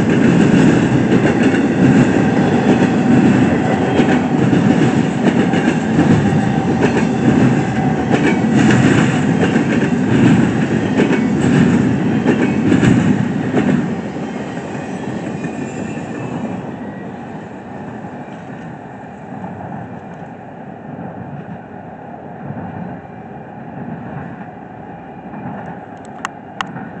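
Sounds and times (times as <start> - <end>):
freight train cars rumbling on rails: 0.0 - 27.0.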